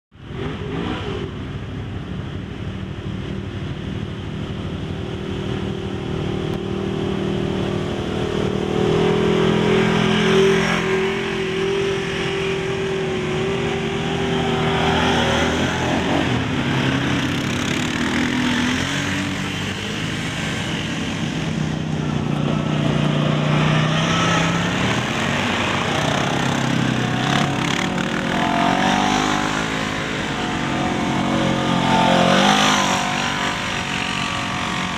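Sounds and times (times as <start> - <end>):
off-road vehicle engines passing: 0.1 - 34.9.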